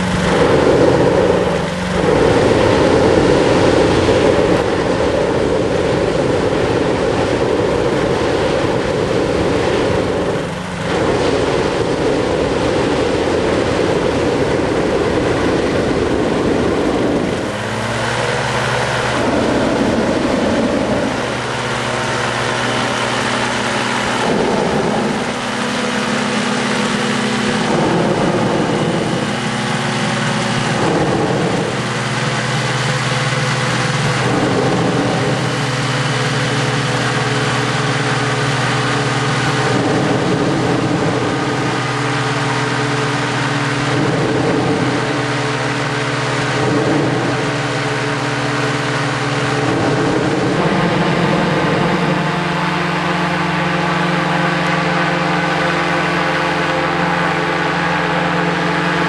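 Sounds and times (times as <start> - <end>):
low engine hum: 0.0 - 59.0
propeller engine running loudly: 0.0 - 59.0
rushing noise: 0.0 - 59.0.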